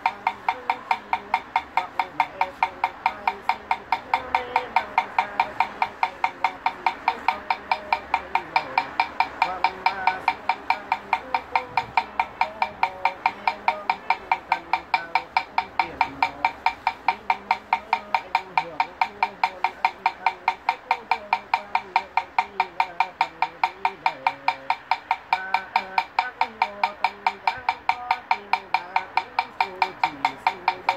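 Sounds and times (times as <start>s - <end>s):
wooden fish beaten rapidly: 0.0s - 30.9s.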